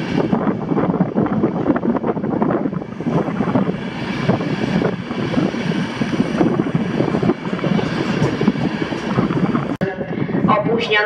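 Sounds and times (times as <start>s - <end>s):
train wheels rolling on rails: 0.0s - 9.8s.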